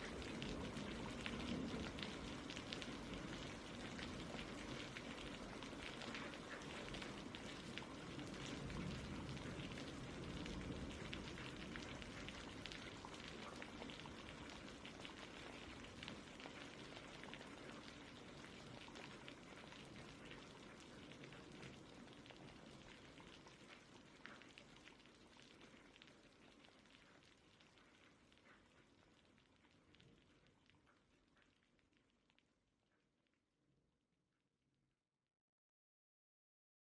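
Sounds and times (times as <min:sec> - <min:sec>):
rain pattering: 0:00.0 - 0:33.0.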